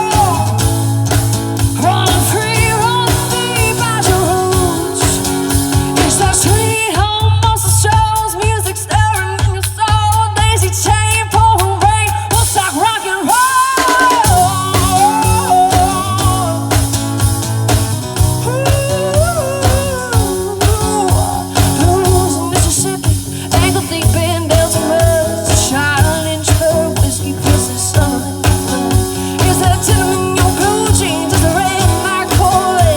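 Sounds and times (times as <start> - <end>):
electric guitar: 0.0 - 8.2, 11.4 - 32.9
bass guitar: 0.0 - 8.3, 14.2 - 32.9
person singing: 0.0 - 32.9
steady drum beat: 0.0 - 32.9.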